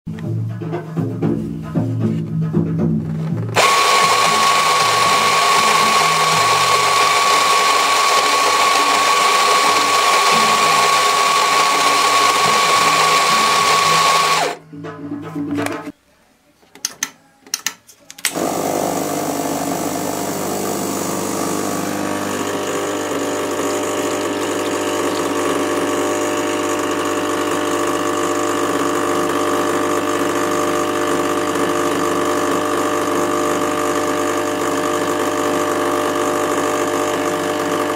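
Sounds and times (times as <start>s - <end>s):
coffee grinder grinding beans: 3.6s - 14.6s, 18.3s - 37.9s
espresso machine pump humming: 3.6s - 14.6s, 18.3s - 37.9s.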